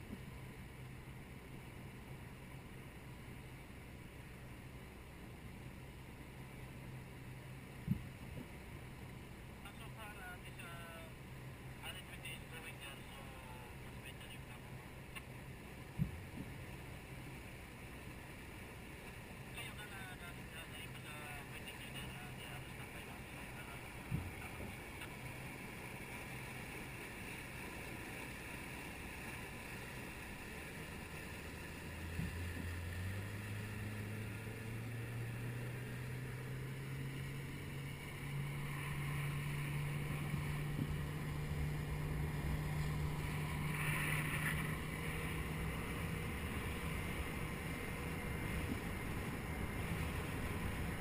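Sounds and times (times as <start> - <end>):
boat engine running: 0.0 - 51.0
water noise: 0.0 - 51.0.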